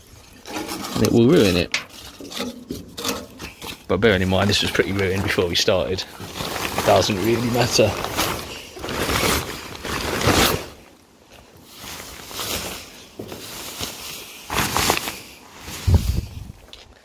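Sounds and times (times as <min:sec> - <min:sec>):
car cover rustling and crinkling: 0:00.0 - 0:17.0.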